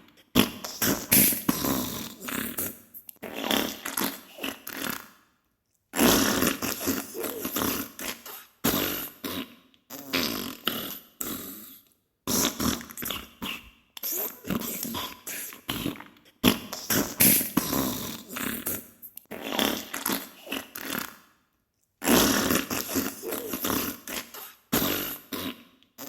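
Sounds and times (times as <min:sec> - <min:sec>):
fart sounds in rapid bursts: 0:00.4 - 0:05.2, 0:06.0 - 0:21.3, 0:22.0 - 0:26.0.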